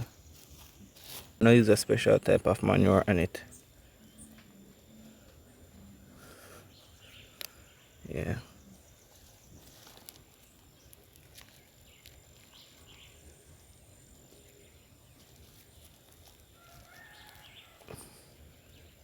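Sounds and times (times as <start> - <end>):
soft bird calls: 0.0 - 19.0.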